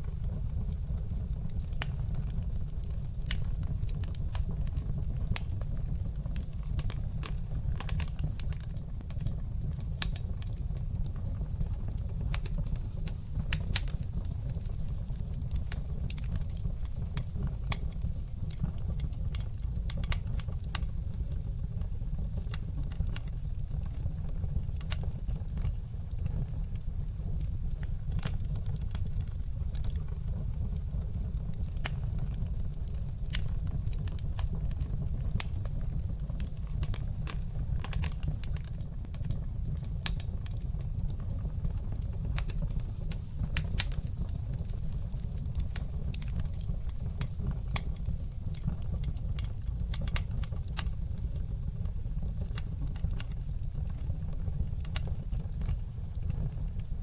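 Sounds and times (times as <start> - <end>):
fire flames rumbling: 0.0 - 57.0
wood fire crackling and popping: 0.0 - 57.0.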